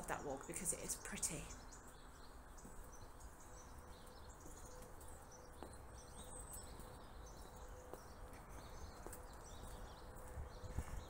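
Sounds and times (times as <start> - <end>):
faint birdsong: 0.0 - 11.0
soft footsteps: 1.8 - 11.0.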